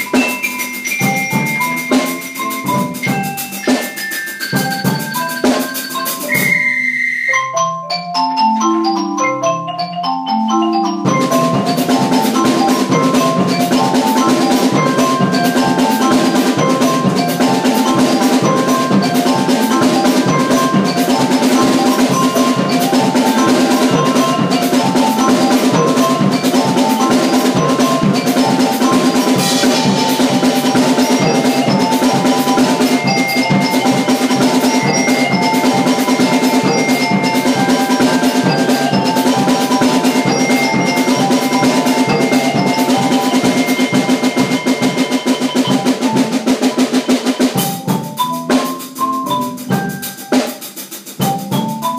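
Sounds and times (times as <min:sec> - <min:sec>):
drum kit: 0:00.0 - 0:07.0, 0:07.7 - 0:51.9
marimba and mallet keyboards: 0:00.0 - 0:51.9.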